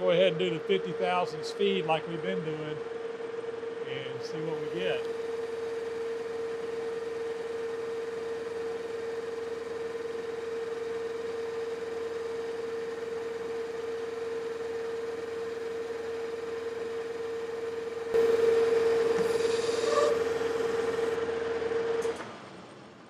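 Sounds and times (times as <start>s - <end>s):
metal lathe running: 0.0s - 21.8s
mid-pitched machine whine: 0.0s - 23.0s.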